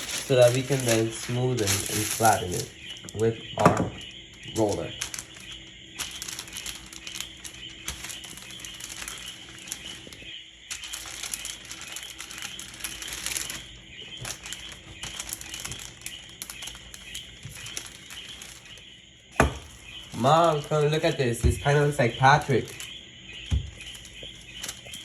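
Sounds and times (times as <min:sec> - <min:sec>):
parchment paper crinkling under rolling pin: 0:00.0 - 0:25.0.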